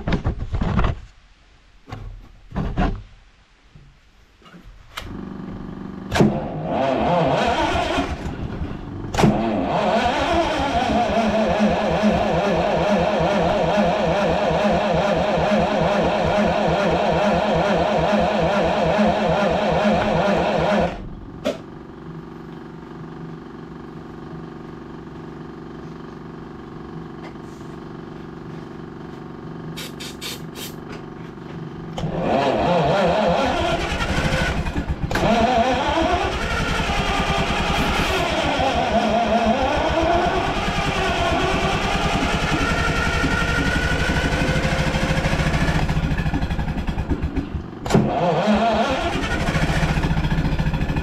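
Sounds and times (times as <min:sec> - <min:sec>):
generator engine running: 0:05.0 - 0:51.0.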